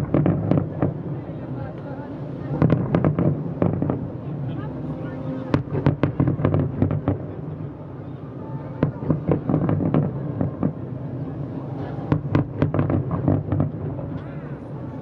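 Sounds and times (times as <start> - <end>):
fireworks bursting with sharp bangs: 0.0 - 4.5, 5.4 - 7.8, 8.7 - 14.3.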